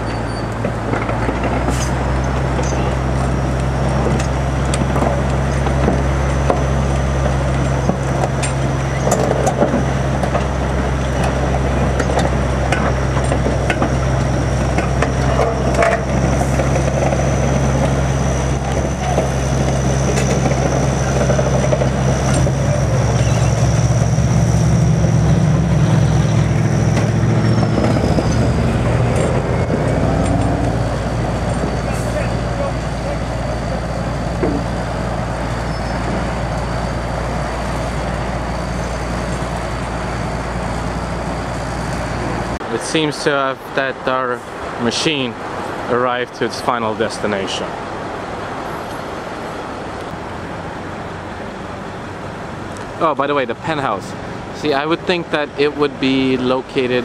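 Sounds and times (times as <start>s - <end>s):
crane diesel engine running: 0.0s - 57.0s
steady high whine: 0.0s - 57.0s.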